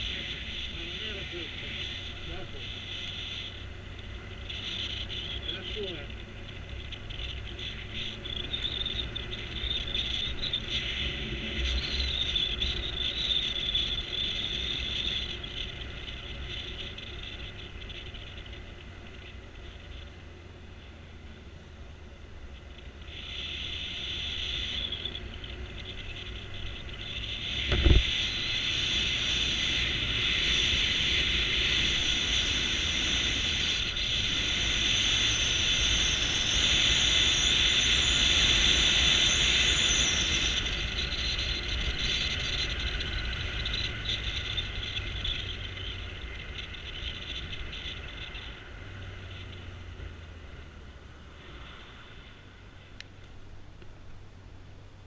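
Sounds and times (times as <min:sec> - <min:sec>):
motorcycle engine rumble: 0:00.0 - 0:55.0
road hiss: 0:00.0 - 0:55.0
wind: 0:00.0 - 0:55.0.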